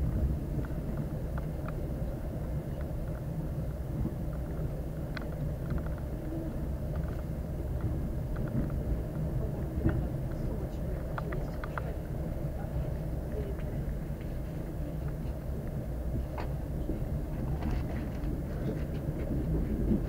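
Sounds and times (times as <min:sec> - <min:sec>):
train rumble inside carriage: 0:00.0 - 0:20.0
faint clicks and rattles: 0:00.6 - 0:20.0.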